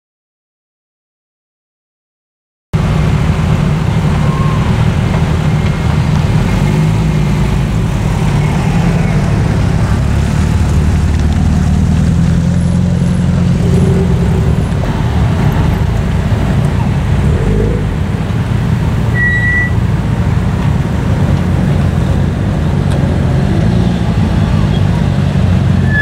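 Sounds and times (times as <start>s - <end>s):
cars driving slowly: 2.8s - 26.0s.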